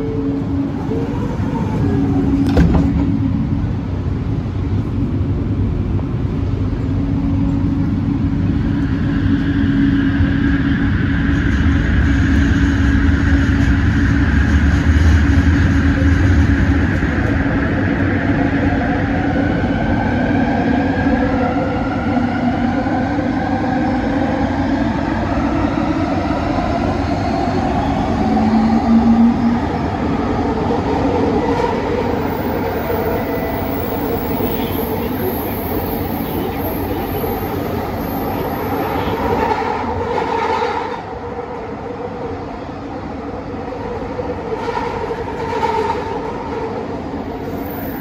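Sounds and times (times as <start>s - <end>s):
train interior running rumble: 0.0s - 48.0s.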